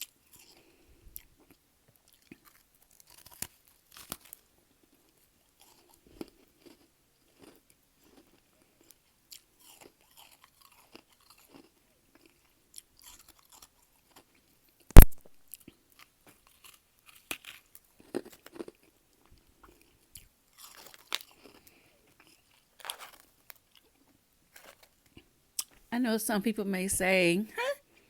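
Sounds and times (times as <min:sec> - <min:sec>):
chewing crunchy frost: 0:00.0 - 0:25.8.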